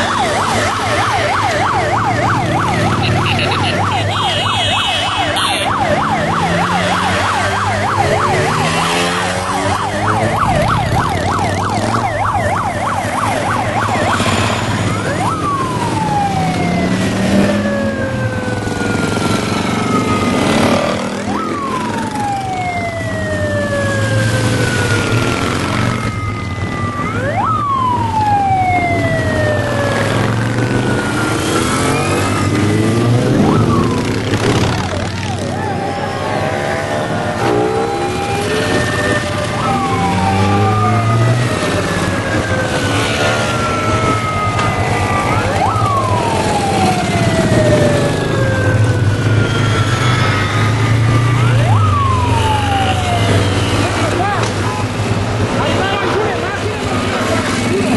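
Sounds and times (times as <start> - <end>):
motorcycle engines passing: 0.0 - 57.9
siren warbling and sweeping: 0.0 - 57.9.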